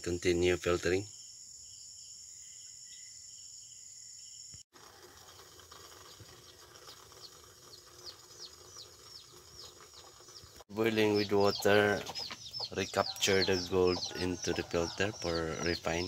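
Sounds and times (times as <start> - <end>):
bird chirping: 0.3 - 4.6, 6.1 - 16.0.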